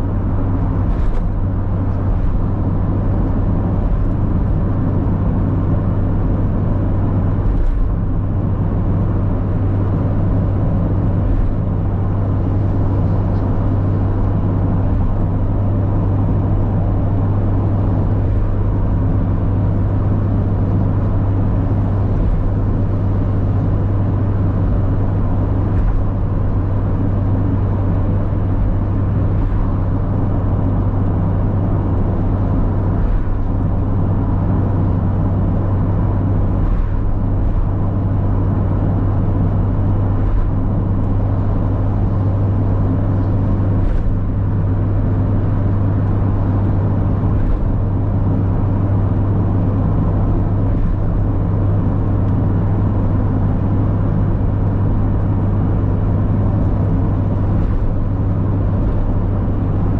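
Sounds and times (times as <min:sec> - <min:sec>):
car engine droning: 0:00.0 - 0:59.9
road and wind noise: 0:00.0 - 0:59.9.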